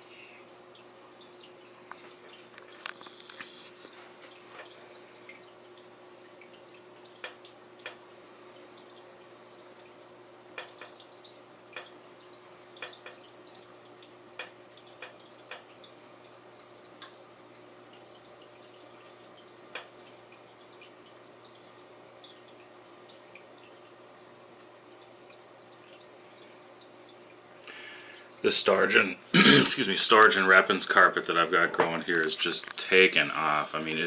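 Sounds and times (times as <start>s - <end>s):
aquarium water hum: 0.0s - 34.0s
sharp water drips: 0.0s - 34.0s.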